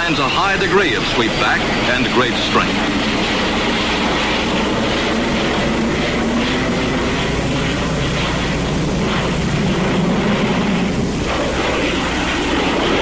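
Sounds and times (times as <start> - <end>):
film soundtrack hiss and hum: 0.0 - 13.0
jet aircraft in flight: 0.0 - 13.0.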